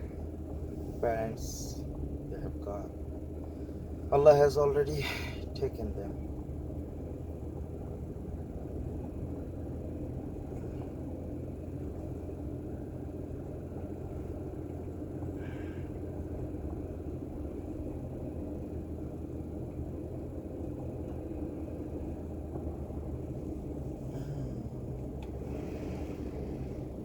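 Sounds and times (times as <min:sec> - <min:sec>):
car engine and tyres droning: 0:00.0 - 0:27.0.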